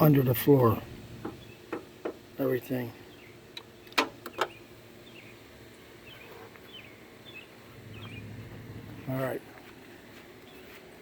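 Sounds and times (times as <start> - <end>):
small birds chirping faintly: 0.0 - 11.0.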